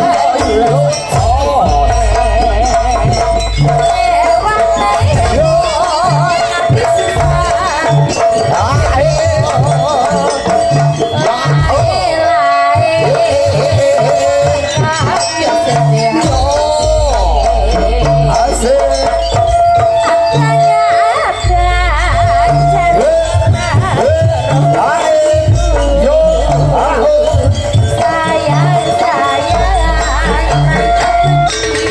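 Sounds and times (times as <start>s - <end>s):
drums beating a steady rhythm: 0.0s - 31.9s
wavering high melody: 0.0s - 31.9s.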